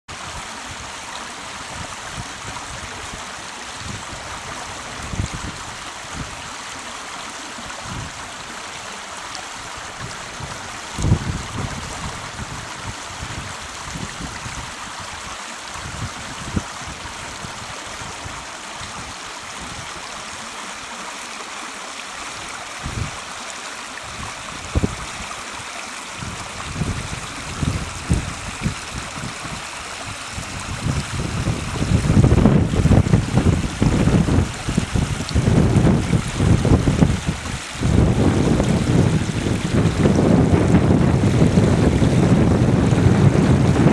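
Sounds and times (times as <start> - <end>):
brook splashing over stones: 0.1 - 43.9.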